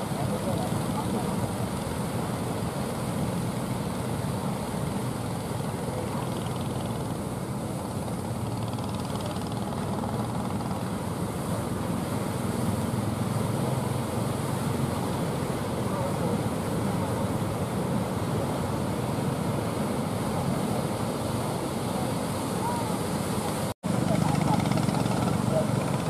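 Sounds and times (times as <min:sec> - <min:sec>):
boat engine running: 0:00.0 - 0:26.0
surf: 0:00.0 - 0:26.0
wind: 0:00.0 - 0:26.0.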